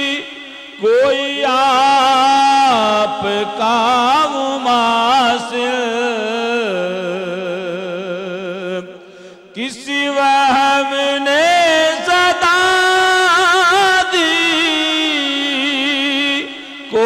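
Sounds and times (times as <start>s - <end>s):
man singing with vibrato: 0.0s - 17.0s.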